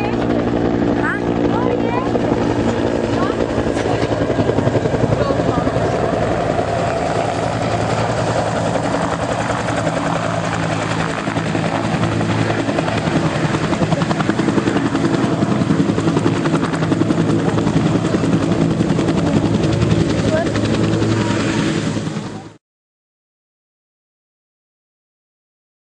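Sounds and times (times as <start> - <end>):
model helicopter engine: 0.0 - 22.6.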